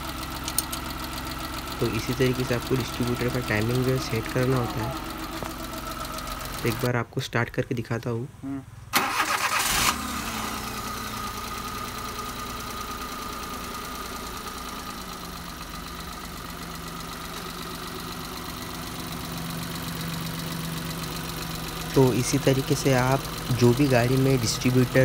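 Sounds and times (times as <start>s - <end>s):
car engine starting and idling: 0.0s - 7.1s, 8.9s - 25.0s.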